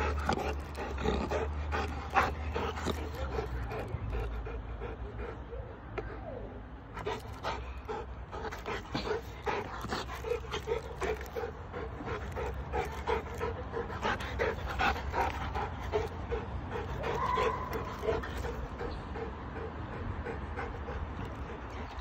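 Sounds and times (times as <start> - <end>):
dog panting quickly: 0.0 - 5.9, 7.0 - 22.0.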